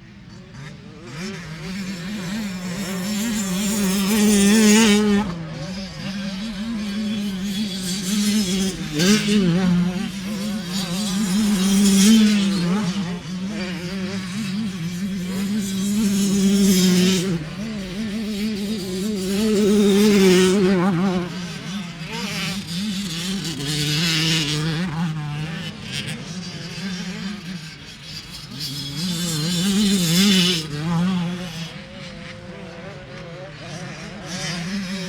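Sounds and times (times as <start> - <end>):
racing engines passing: 0.0 - 35.0.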